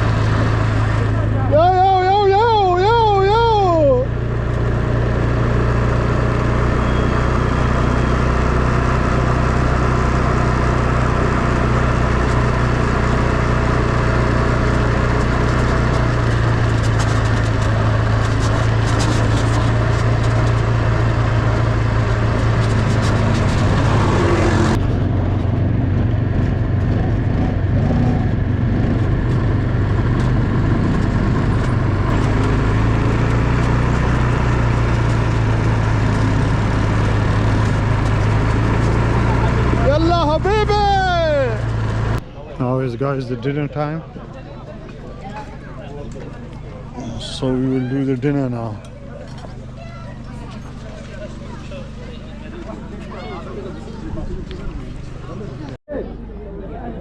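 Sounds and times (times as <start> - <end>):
quad bike engine running: 0.0 - 42.8, 44.0 - 55.8.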